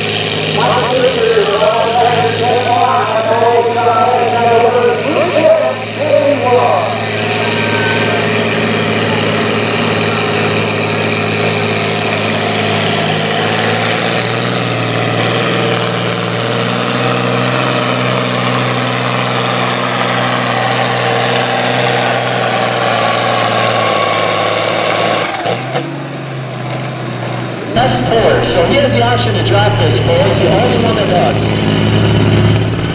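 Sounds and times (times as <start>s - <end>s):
tractor engine revving hard: 0.0s - 32.9s.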